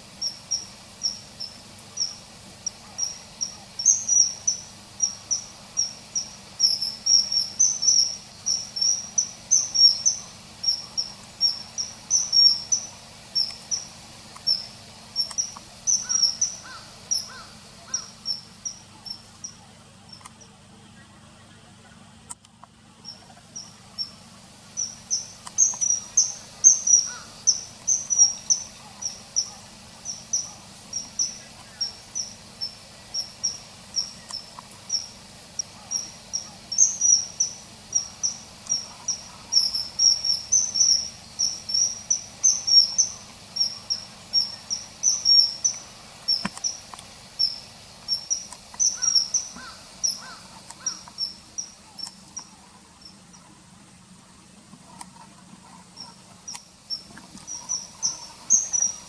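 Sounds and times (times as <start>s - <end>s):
kingfisher piping calls: 0.0s - 20.6s, 23.0s - 53.4s, 55.6s - 59.0s.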